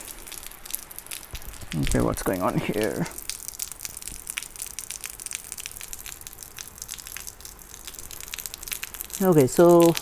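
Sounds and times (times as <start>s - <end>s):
light rain falling: 0.0s - 10.0s.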